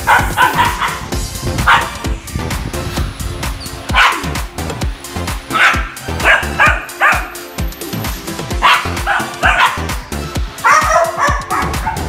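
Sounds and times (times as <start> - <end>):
dogs barking: 0.0 - 2.2, 3.6 - 4.5, 5.3 - 12.0
music with steady beat: 0.0 - 12.0.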